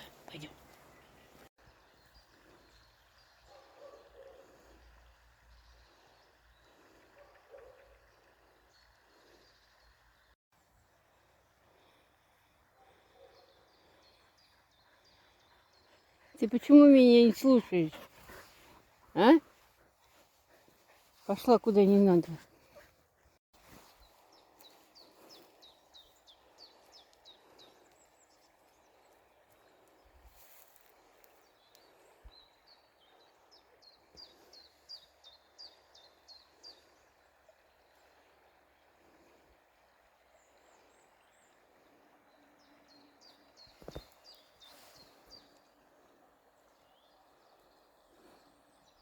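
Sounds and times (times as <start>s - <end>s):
songbird song: 0.0s - 49.0s.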